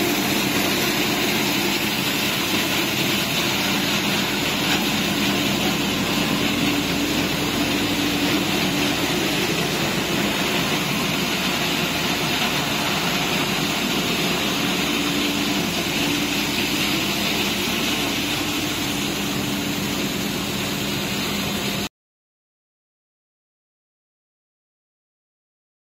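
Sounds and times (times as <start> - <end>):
machinery humming: 0.0 - 21.9.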